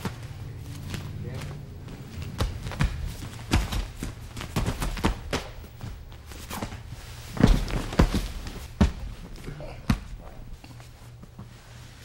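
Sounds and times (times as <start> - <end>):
footsteps on a mat: 0.0 - 12.0.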